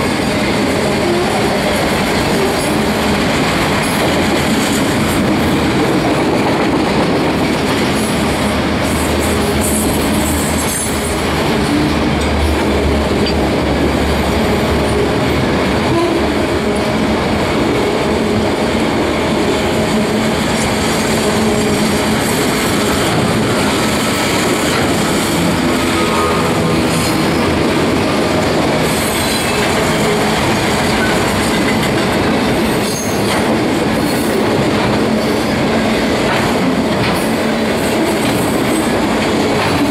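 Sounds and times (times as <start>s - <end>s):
rumble of train wheels on rails: 0.0s - 39.9s.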